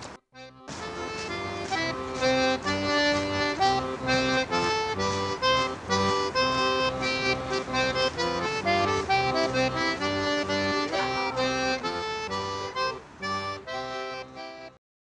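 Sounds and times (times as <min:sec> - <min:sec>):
instrumental music: 0:00.0 - 0:14.8.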